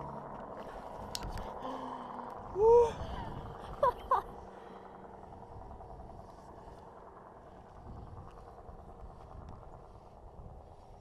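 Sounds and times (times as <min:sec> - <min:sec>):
low roadside rumble: 0:00.0 - 0:11.0.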